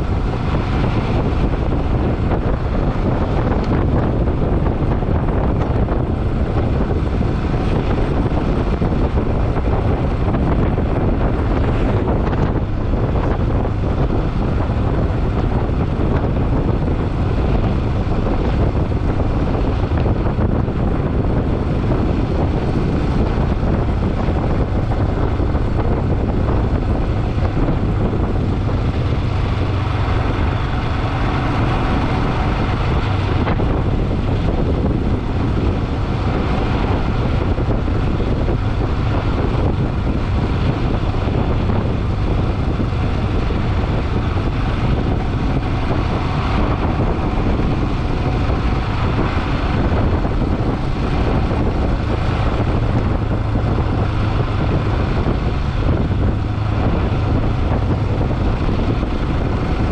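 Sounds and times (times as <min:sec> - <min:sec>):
motorcycle engine humming: 0:00.0 - 0:59.9
wind rushing over microphone: 0:00.0 - 0:59.9.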